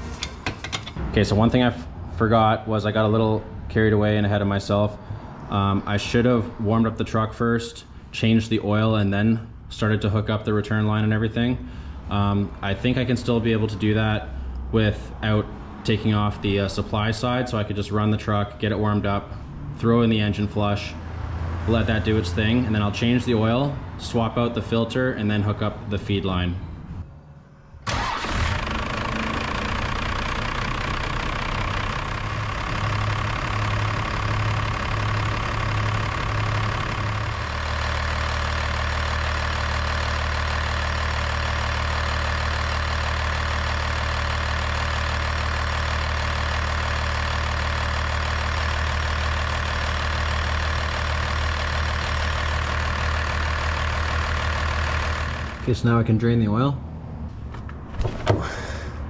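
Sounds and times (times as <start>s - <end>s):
diesel engine idling: 0.0s - 57.7s.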